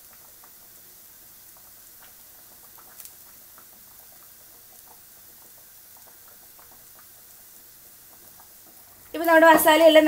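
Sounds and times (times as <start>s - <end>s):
fried fish crackling: 0.0s - 10.0s.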